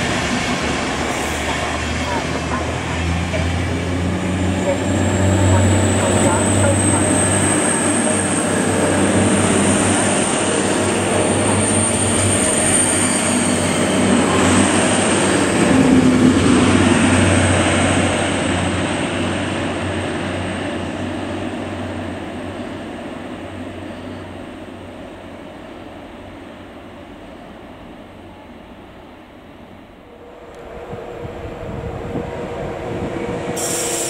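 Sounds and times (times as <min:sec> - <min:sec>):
diesel train passing: 0:00.0 - 0:34.0.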